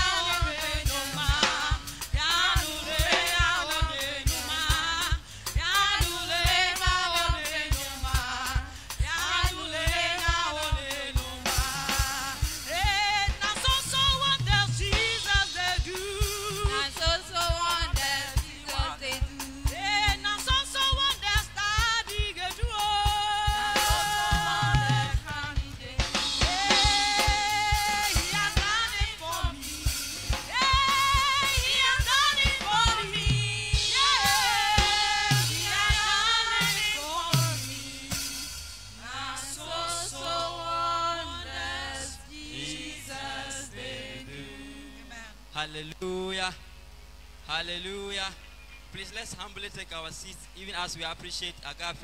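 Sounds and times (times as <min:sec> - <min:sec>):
drum kit beat: 0:00.0 - 0:44.6
women singing into microphones: 0:00.0 - 0:45.5.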